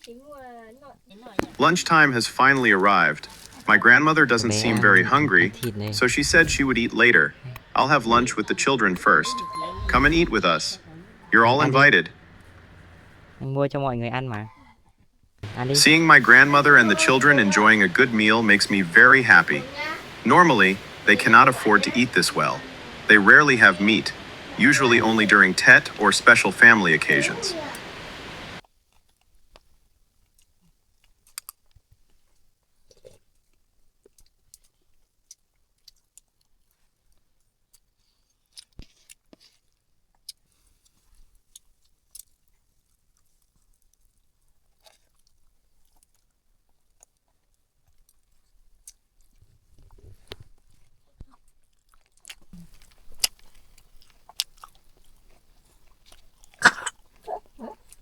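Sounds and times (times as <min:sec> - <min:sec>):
people chewing: 0:00.0 - 0:13.4, 0:14.6 - 0:58.0.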